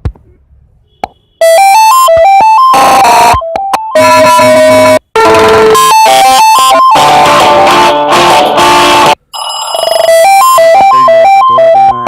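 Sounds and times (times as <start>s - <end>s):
phone ringtone melody: 1.4s - 12.0s.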